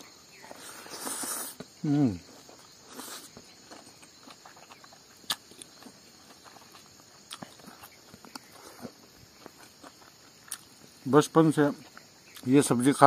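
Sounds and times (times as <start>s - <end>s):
person chewing food: 0.0s - 11.0s
insects humming: 0.0s - 13.0s.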